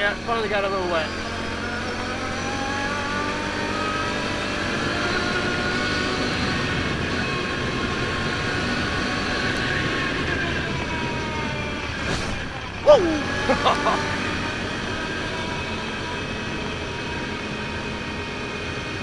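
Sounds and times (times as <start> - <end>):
quad bike engine running: 0.0 - 12.0, 12.6 - 19.0
road and wind noise: 0.0 - 19.0.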